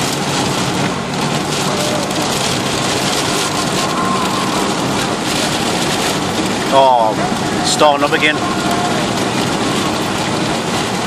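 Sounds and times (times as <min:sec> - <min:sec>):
rain on car: 0:00.0 - 0:11.0
tyres on wet road: 0:00.0 - 0:11.0.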